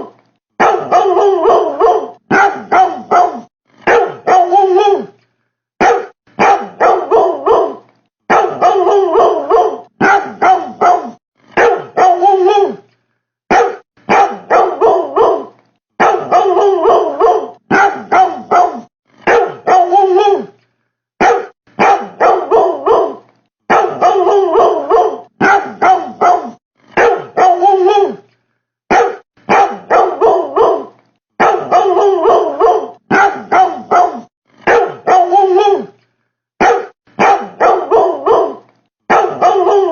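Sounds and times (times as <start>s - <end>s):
dog barking: 0.0s - 5.1s, 5.8s - 12.8s, 13.5s - 20.5s, 21.2s - 28.2s, 28.9s - 35.9s, 36.6s - 39.9s.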